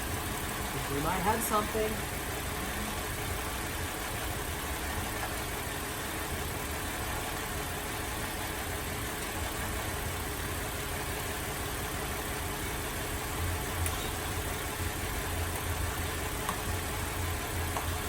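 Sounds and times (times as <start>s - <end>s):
car engine idling roughly: 0.0s - 18.0s.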